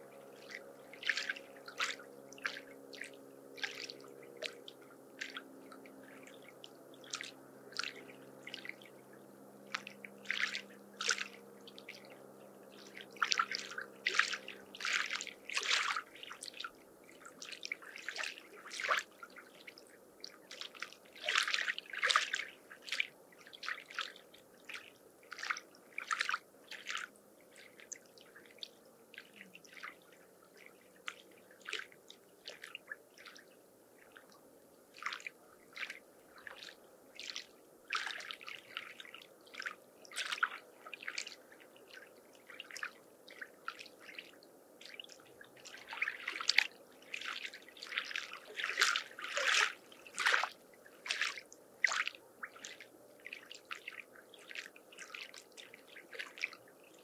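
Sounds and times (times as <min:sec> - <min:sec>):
lake waves lapping at shore: 0:00.0 - 0:57.0.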